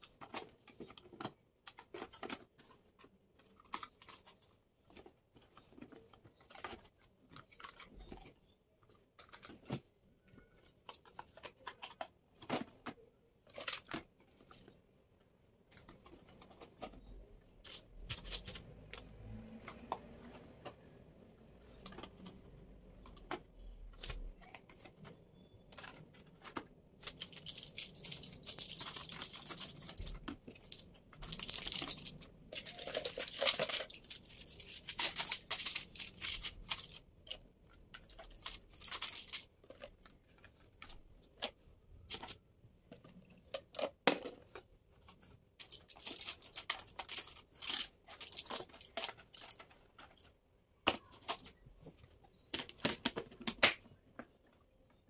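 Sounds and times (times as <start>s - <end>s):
material rustling and crinkling: 0.0s - 43.6s, 44.3s - 50.4s.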